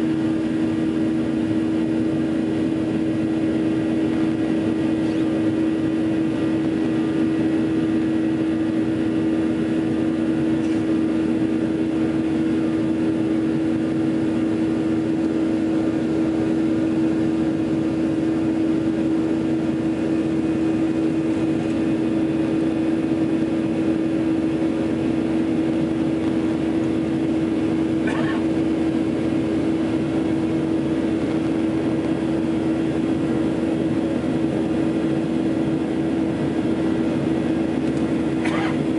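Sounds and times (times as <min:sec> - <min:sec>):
jet engines droning: 0:00.0 - 0:38.9.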